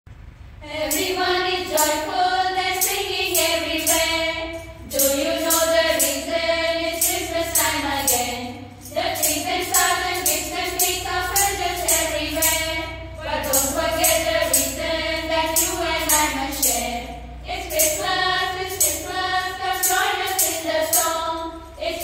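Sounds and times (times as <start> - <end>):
women singing through microphones: 0.6 - 22.0
light steady beat: 0.8 - 22.0.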